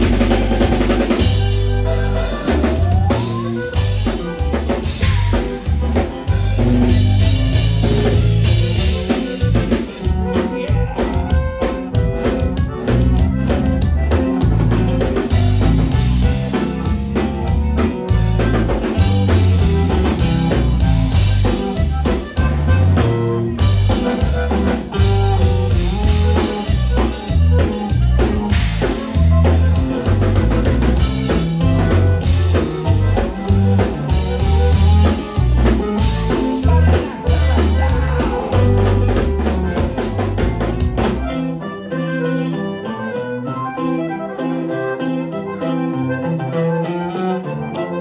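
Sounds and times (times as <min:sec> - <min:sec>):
drum kit beat: 0:00.0 - 0:46.4
bass line: 0:00.0 - 0:48.0
guitar: 0:00.0 - 0:48.0
live band playing: 0:00.0 - 0:48.0.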